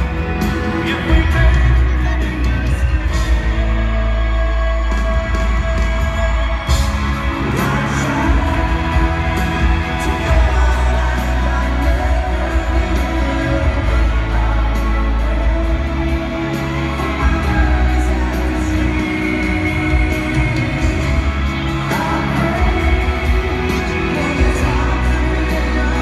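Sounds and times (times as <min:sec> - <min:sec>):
live amplified pop music: 0:00.0 - 0:26.0.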